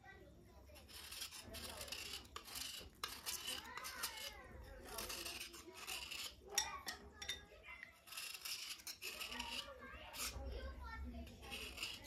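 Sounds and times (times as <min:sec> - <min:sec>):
knife scraping slate pencil: 0:00.7 - 0:12.0.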